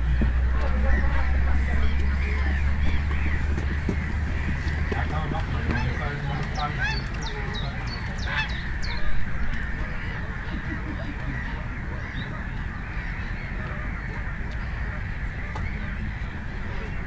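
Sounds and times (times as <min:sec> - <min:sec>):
birds honking: 0:00.0 - 0:17.0
low background rumble: 0:00.0 - 0:17.0.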